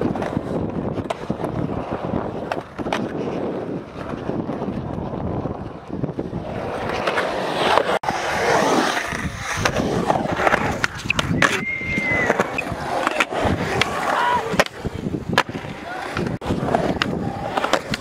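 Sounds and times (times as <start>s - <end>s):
skateboard clacks: 0.0s - 8.2s, 8.8s - 18.0s
skateboard grinding scrape: 0.0s - 18.0s
skateboard wheels rolling on concrete: 0.0s - 18.0s.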